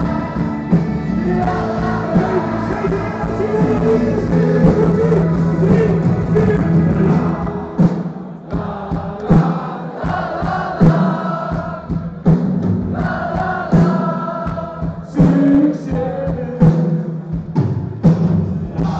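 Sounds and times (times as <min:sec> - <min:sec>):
crowd singing along: 0:00.0 - 0:17.3, 0:18.6 - 0:18.9
loud music with heavy drum beat: 0:00.0 - 0:18.9.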